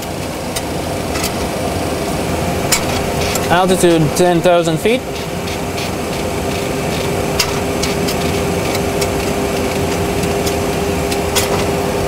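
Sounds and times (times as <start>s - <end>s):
steady hum: 0.5s - 12.0s
rushing cockpit noise: 1.2s - 12.0s.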